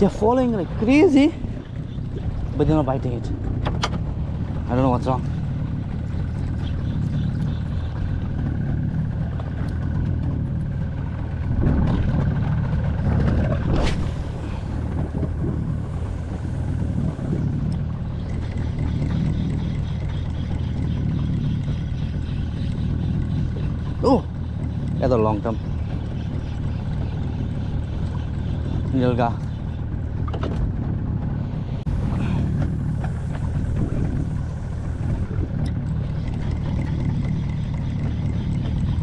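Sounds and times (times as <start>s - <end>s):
low rumble of wind and water: 0.0s - 39.0s.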